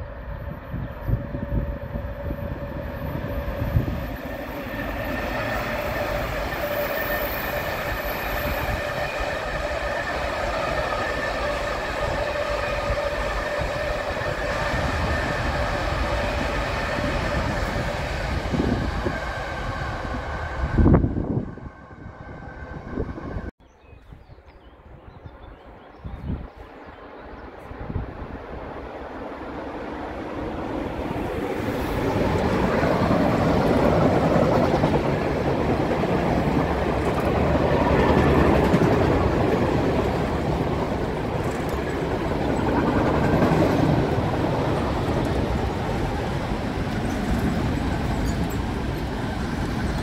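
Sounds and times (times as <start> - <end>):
train wheels rumbling on rails: 0.0 - 23.5, 26.4 - 50.0.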